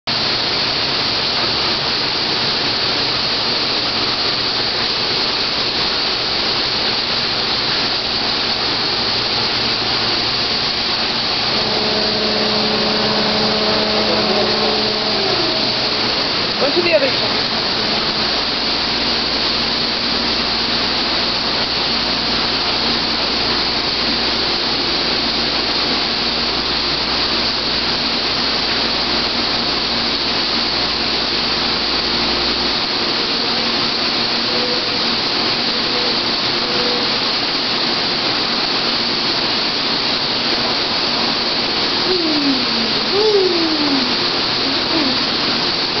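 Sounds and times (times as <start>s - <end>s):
waterfall pouring into pool: 0.1s - 46.0s.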